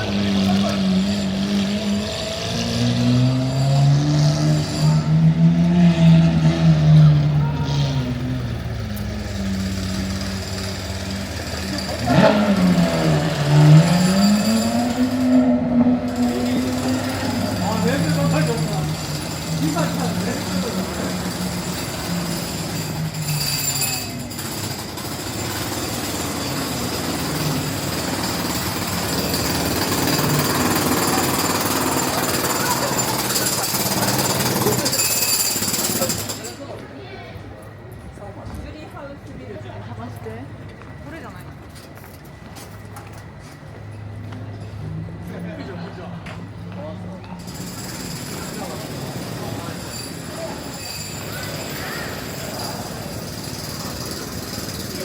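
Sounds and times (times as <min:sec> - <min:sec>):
vehicle engine running: 0:00.0 - 0:37.0, 0:38.2 - 0:55.0
street noise: 0:00.0 - 0:55.0.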